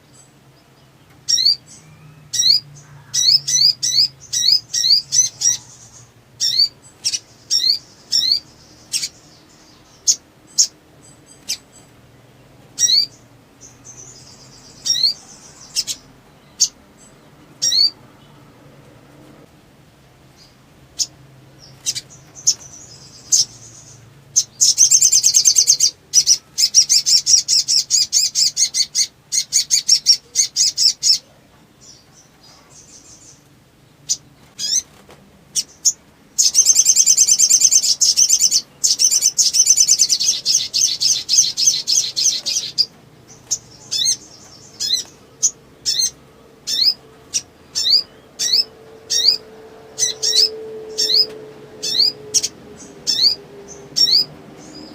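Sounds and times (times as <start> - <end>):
bird singing: 0.0 - 18.8, 20.3 - 54.9.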